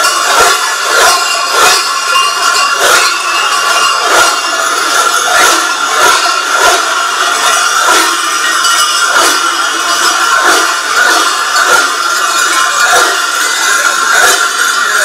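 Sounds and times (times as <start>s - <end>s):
large cowbells clanging: 0.0s - 15.0s.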